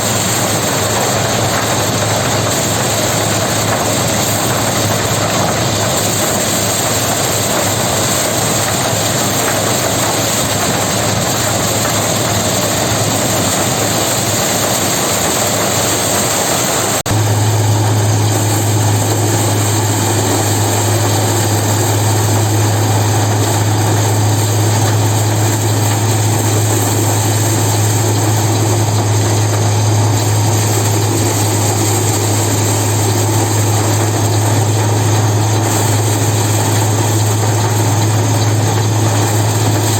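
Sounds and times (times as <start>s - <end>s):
machine engine humming: 0.0s - 39.9s.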